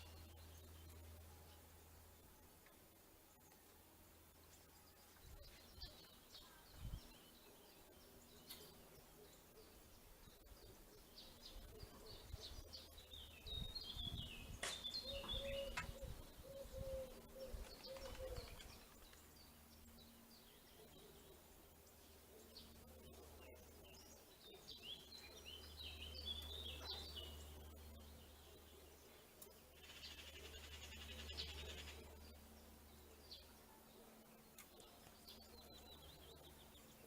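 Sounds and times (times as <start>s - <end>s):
songbirds chirping faintly: 0.0s - 37.0s.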